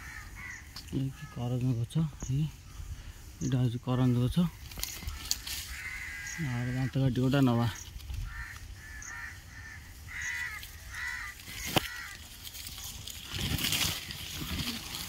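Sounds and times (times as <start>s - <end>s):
bird harsh calls: 0.0s - 3.6s, 4.5s - 15.0s
leaves and branches rustling: 0.0s - 15.0s.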